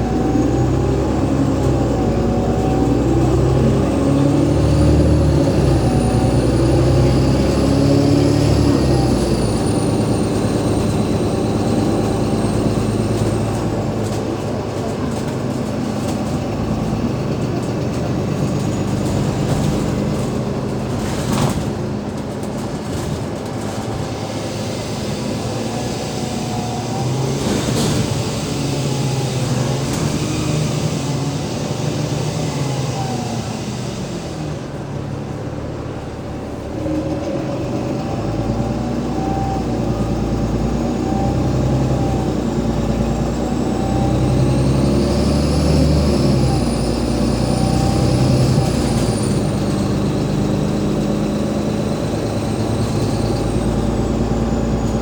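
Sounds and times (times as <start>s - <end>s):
bus diesel engine under load: 0.0s - 55.0s.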